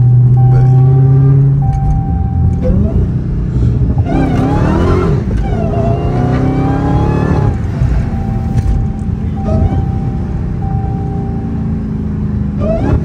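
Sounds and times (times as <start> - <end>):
car engine accelerating hard: 0.0 - 13.0
gear change: 0.0 - 13.0.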